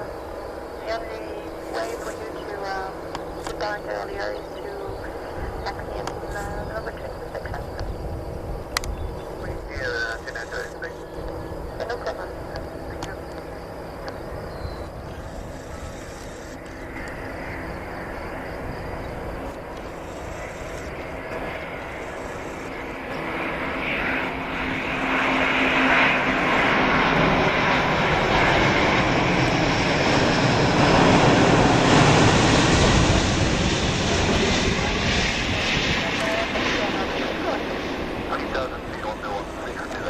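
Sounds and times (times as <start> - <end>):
jet engines at taxi power: 0.0 - 40.0.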